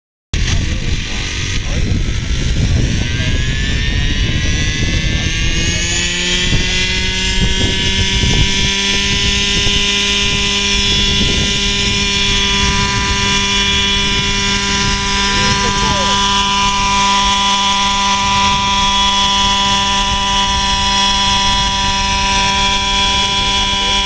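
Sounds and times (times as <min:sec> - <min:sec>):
low rumble of rotor wash: 0:00.4 - 0:24.0
model helicopter engine whine: 0:00.4 - 0:24.0.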